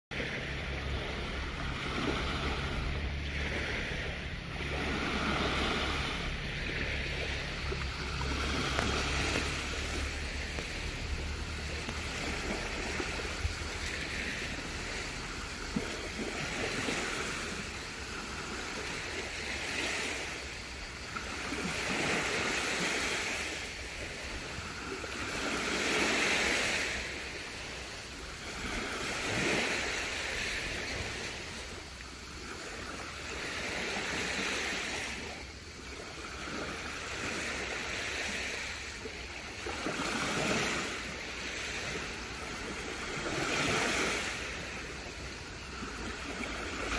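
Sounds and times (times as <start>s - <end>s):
waves washing onto beach: 0.1s - 46.9s.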